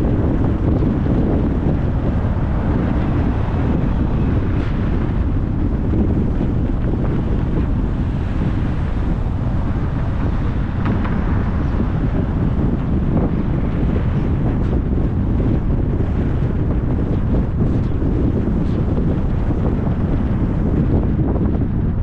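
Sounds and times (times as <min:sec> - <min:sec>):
car driving on road: 0:00.0 - 0:22.0.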